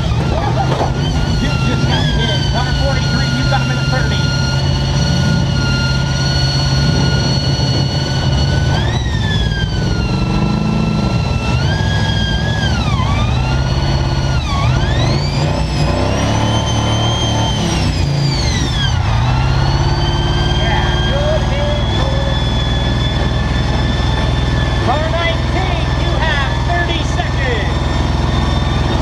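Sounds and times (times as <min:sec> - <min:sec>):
car engines running hard: 0:00.0 - 0:29.0
high engine whine: 0:00.0 - 0:29.0.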